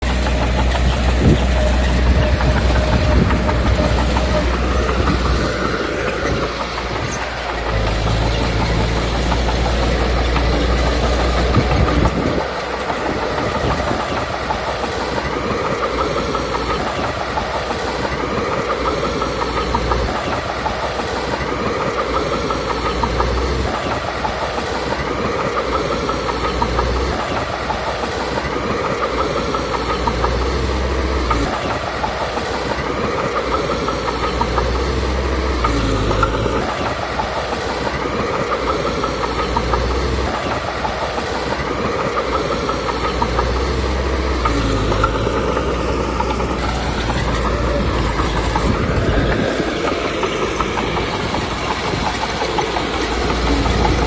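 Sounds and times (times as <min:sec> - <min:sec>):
diesel engine under load: 0:00.0 - 0:54.0
steel tracks clanking: 0:00.0 - 0:54.0.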